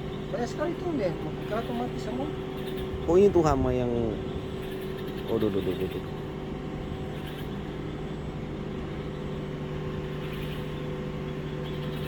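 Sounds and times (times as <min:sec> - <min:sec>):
low droning hum: 0:00.0 - 0:12.0.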